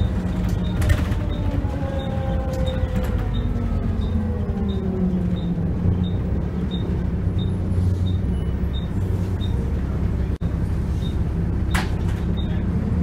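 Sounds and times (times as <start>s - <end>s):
bus diesel engine humming: 0.0s - 13.0s.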